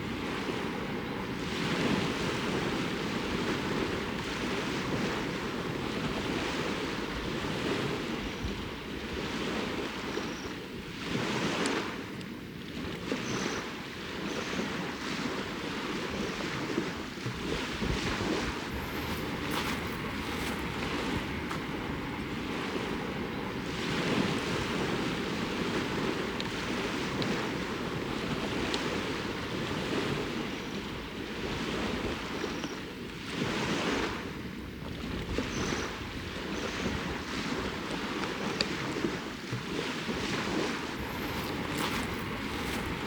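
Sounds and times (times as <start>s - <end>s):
waves washing onto shore: 0.0s - 35.5s, 36.1s - 43.0s
wind: 0.0s - 43.0s.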